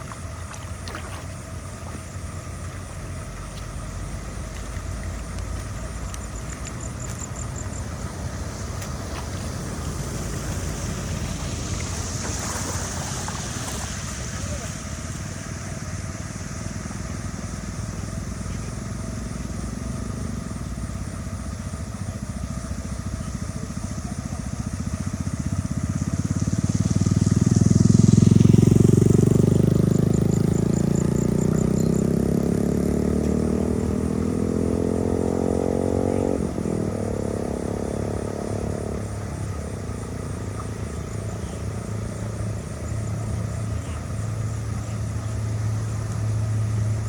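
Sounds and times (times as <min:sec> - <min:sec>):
engine running and revving: 0:01.0 - 0:47.0.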